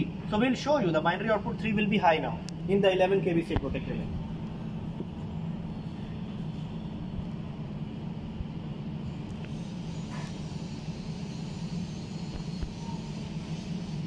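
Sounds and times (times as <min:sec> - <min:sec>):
low hum of equipment: 0:00.0 - 0:14.0.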